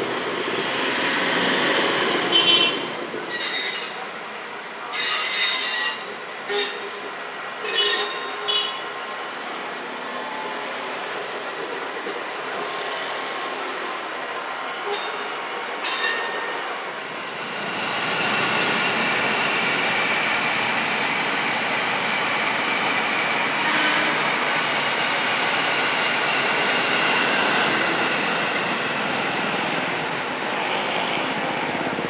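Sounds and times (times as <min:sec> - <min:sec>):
train running past on rails: 0:00.0 - 0:32.0.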